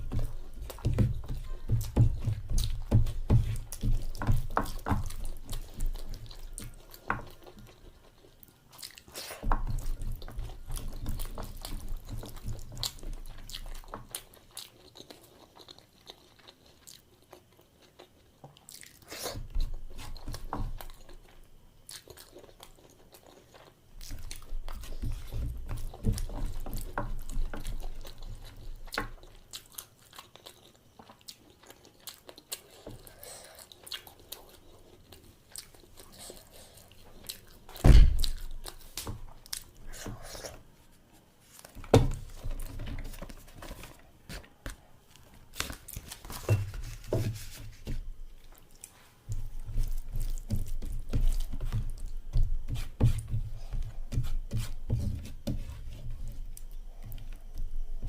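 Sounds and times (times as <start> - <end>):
person chewing: 0.0 - 55.1.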